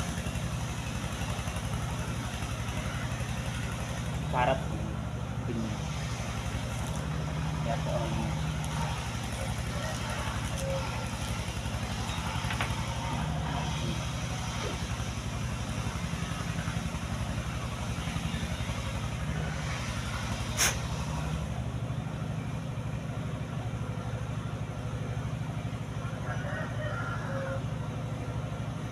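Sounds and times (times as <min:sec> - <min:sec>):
pulsing engine-like drone: 0:00.0 - 0:28.9.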